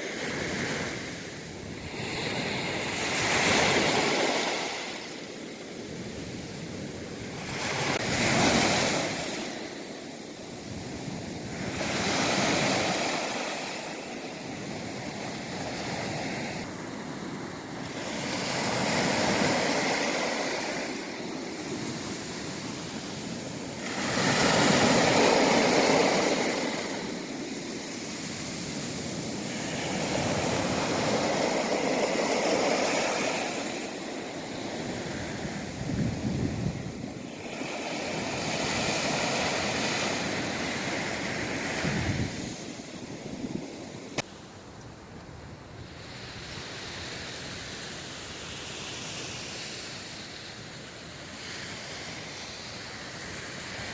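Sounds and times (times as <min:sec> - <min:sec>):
sea waves breaking on shore: 0:00.0 - 0:44.6, 0:45.5 - 0:53.9.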